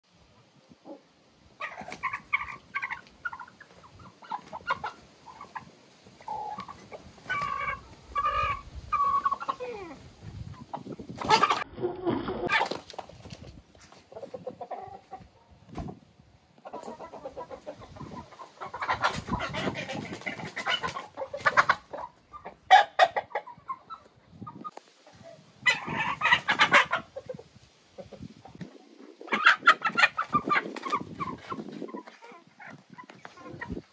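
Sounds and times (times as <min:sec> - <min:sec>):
chickens clucking and calling: 0:00.3 - 0:33.9.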